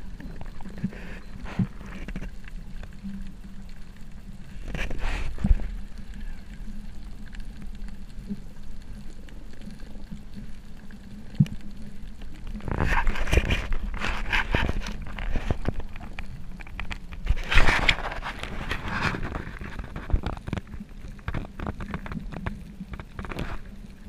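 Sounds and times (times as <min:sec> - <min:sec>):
underwater crackling clicks: 0:00.0 - 0:24.0
underwater low rumble: 0:00.0 - 0:24.0.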